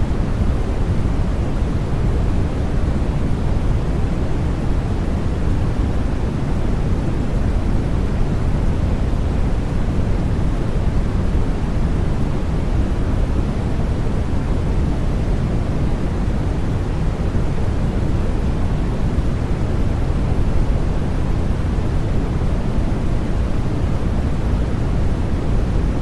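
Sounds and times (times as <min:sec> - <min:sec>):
deep white noise hiss: 0:00.0 - 0:26.0.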